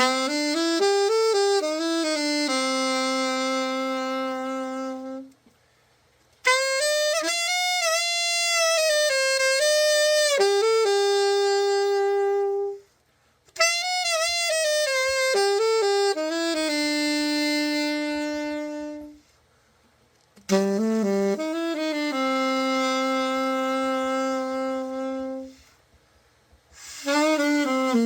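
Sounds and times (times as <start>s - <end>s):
alto saxophone melody: 0.0s - 5.5s, 6.4s - 19.5s, 20.2s - 28.0s.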